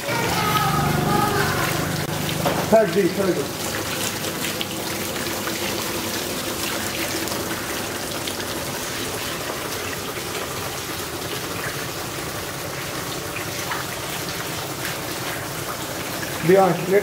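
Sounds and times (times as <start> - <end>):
water running and trickling: 0.0 - 17.0.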